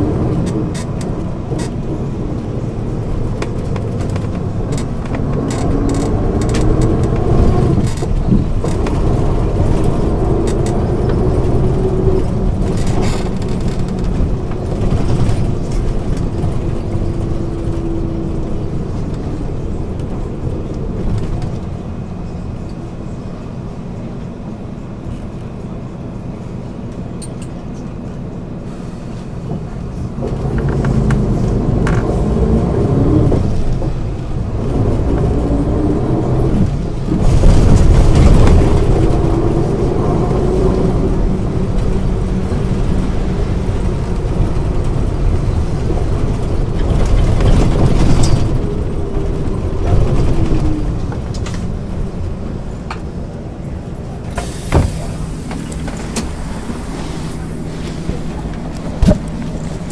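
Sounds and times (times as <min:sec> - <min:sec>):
bus engine revving through gears: 0:00.0 - 0:59.9.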